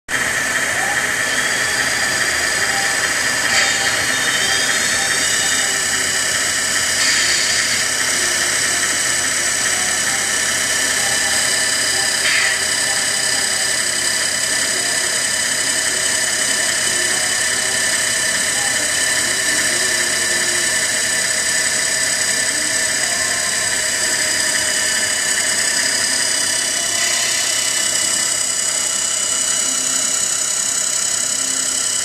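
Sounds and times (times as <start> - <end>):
high electric motor whine: 0.1 - 32.0.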